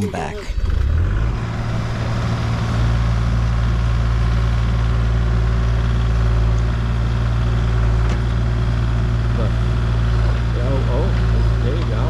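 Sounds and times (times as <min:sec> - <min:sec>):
heavy machine engine humming: 0:00.0 - 0:12.0.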